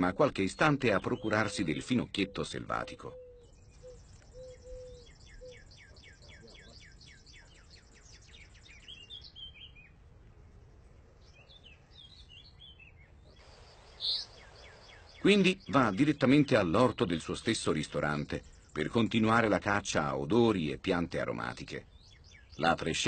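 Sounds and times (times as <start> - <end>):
songbird trilling and chirping: 0.0 - 10.0, 11.2 - 20.2, 21.2 - 23.0
faint background hiss: 0.0 - 23.0.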